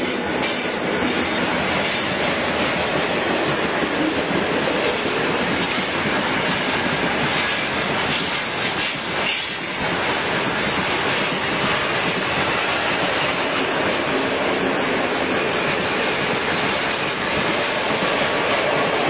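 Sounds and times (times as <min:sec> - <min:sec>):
freight wagons rolling on rails: 0:00.0 - 0:19.0.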